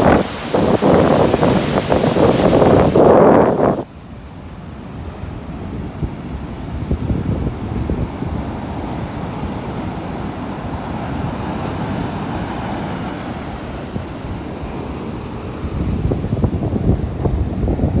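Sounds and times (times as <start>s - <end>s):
wind buffeting microphone: 0.0s - 3.9s, 5.0s - 18.0s
sea waves washing in: 0.0s - 18.0s.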